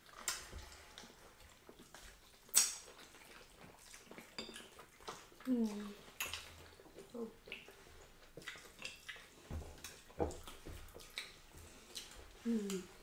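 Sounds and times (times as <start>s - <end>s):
wet eating sounds: 0.0s - 13.0s.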